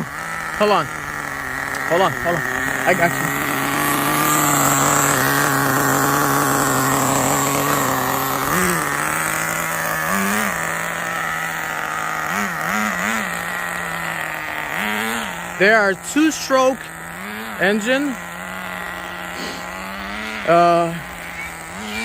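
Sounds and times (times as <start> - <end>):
small nitro engine idling and revving: 0.0 - 22.0.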